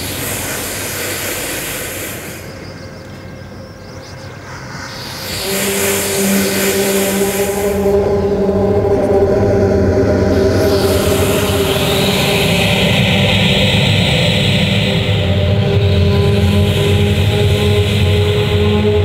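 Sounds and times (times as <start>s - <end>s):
hissing noise swells: 0.0s - 9.4s, 10.2s - 19.0s
sustained pitched drone: 0.0s - 19.0s.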